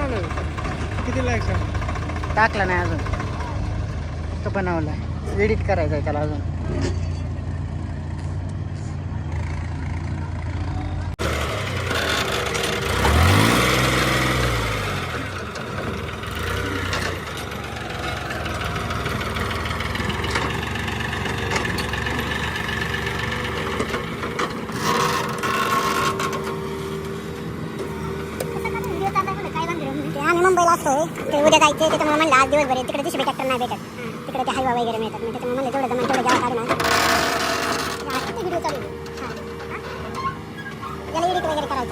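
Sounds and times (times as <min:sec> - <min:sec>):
heavy diesel engine revving: 0:00.0 - 0:06.8, 0:09.2 - 0:41.9.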